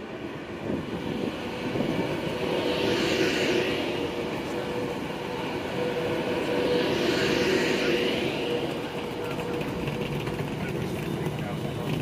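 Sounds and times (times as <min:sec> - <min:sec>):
train hum: 0:00.0 - 0:12.0
train wheels rumbling on rails: 0:00.0 - 0:12.0
train hiss: 0:00.4 - 0:10.8.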